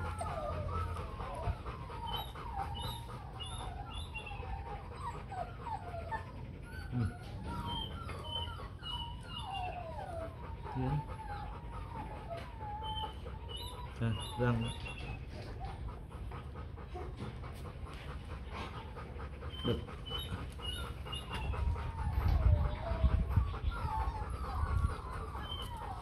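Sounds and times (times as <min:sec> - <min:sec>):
puppies whimpering: 0:00.0 - 0:26.0.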